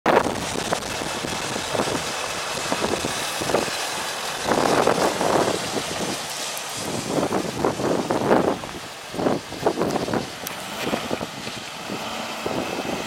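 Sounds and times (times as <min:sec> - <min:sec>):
wind buffeting microphone: 0:00.1 - 0:13.0.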